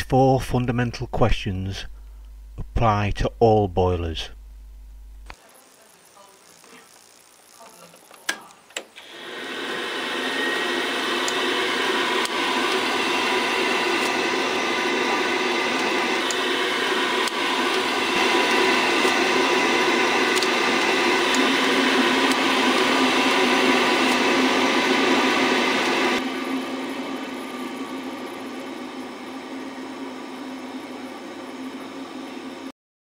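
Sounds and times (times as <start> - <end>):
boiler fan humming and whining: 0.0 - 32.7.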